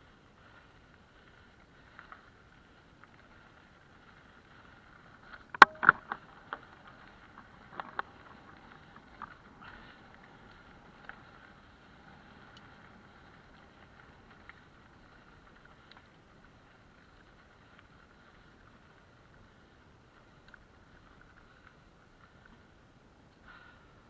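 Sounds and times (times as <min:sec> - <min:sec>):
bike rattling over stony track: 0:00.0 - 0:22.8
bike tyres rolling: 0:00.0 - 0:24.0.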